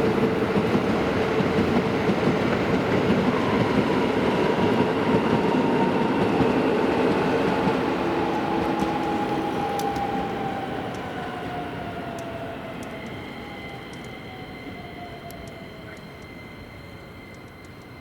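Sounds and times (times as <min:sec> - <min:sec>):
electric train running noise: 0:00.0 - 0:18.0.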